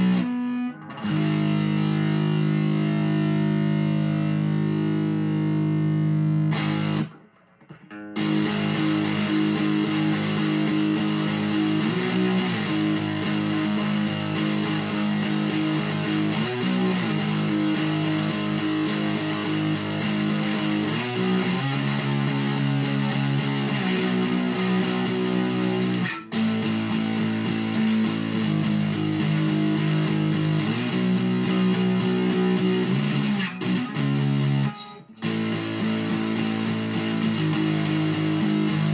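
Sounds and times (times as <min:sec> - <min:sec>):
electric guitar chords: 0:00.0 - 0:38.9.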